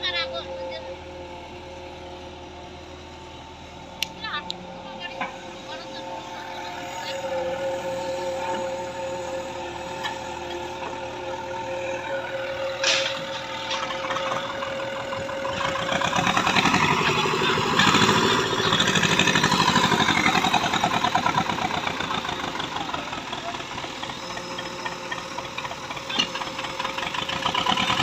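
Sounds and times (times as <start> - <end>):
heavy diesel engine running: 0.0 - 28.0
steady machine whine: 3.4 - 27.3.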